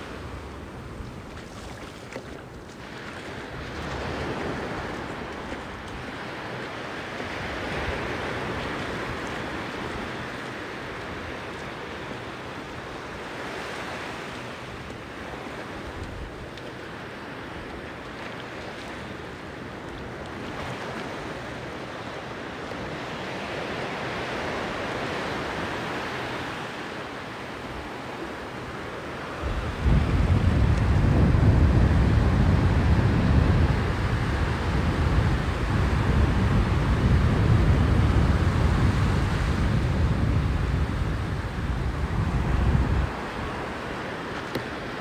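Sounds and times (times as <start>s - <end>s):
ocean surf on beach: 0.0s - 45.0s.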